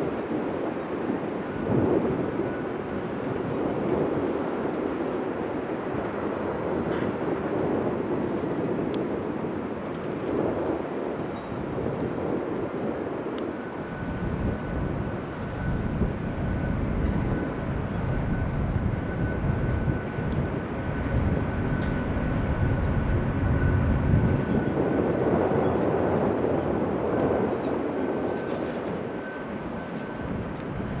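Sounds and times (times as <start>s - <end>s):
jet engines rumbling: 1.0s - 31.0s.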